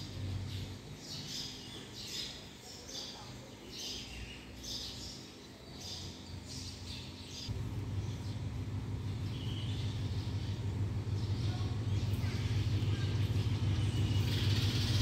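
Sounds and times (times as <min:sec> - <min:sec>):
bird chirping: 0:00.0 - 0:15.0
low steady hum: 0:00.0 - 0:15.0.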